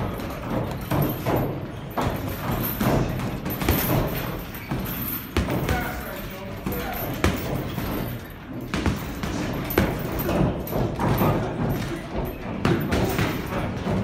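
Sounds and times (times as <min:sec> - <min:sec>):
boxing punches and footwork thuds: 0:00.0 - 0:14.0.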